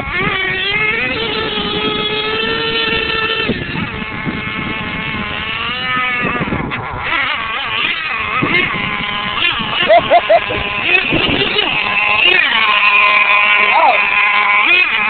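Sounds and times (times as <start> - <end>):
rc truck motor whine: 0.0 - 15.0.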